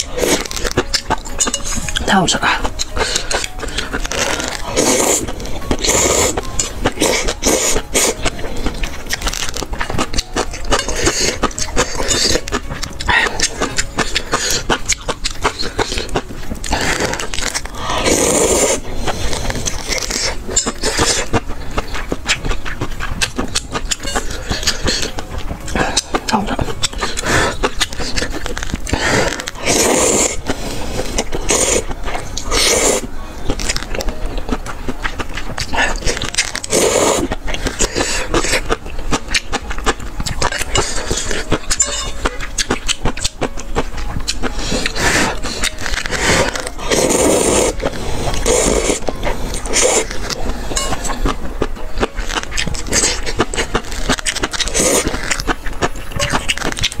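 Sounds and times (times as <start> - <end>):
noodles being slurped: 0.0 - 57.0
wet chewing and lip-smacking: 0.0 - 57.0.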